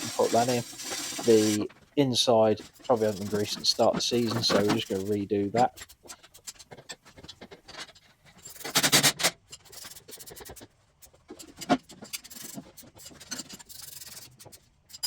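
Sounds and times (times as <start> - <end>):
scraping metal parts: 0.0 - 15.0.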